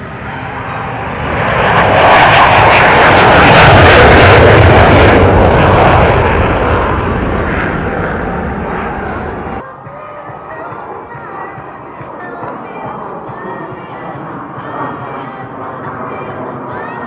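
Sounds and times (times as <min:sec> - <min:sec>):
jet fighter fly-by roar: 0:00.0 - 0:17.0.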